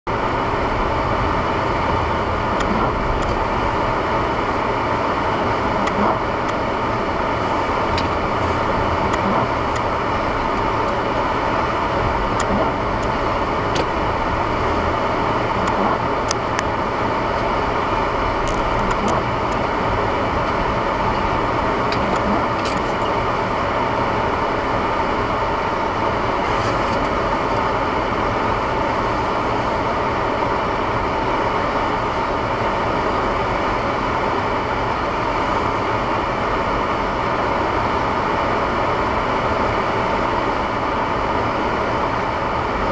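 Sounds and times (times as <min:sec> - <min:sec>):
car engine and tyre noise: 0:00.0 - 0:42.9.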